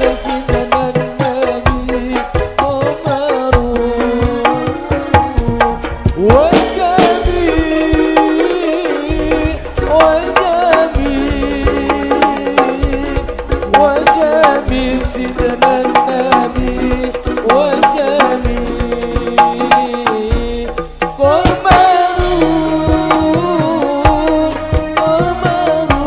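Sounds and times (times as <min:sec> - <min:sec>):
hand drums beating: 0:00.0 - 0:26.0
wavering melody line: 0:00.0 - 0:26.0.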